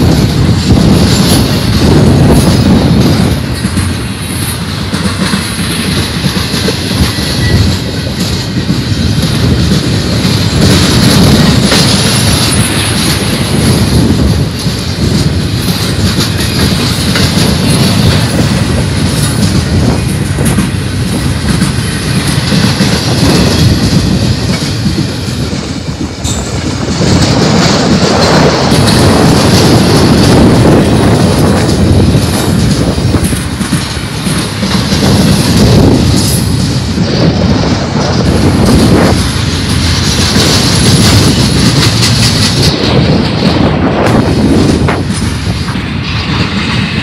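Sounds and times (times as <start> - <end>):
steel train wheels on rails: 0.0 - 47.0.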